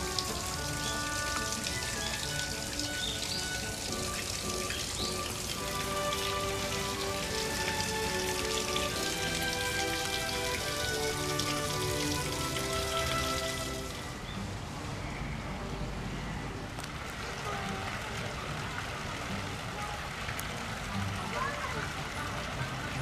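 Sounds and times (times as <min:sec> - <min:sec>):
background music of held notes: 0:00.0 - 0:23.0.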